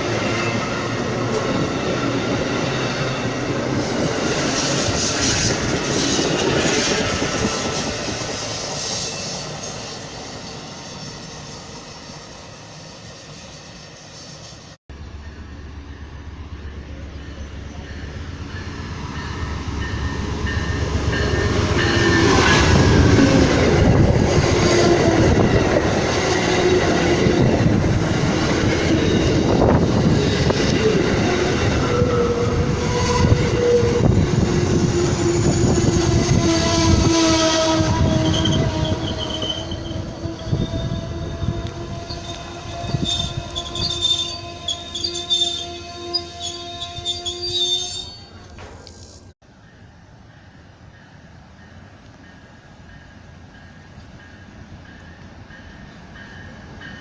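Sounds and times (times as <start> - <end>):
long drawn-out train tones: 0.0 - 57.0
train rumbling on tracks: 0.0 - 57.0.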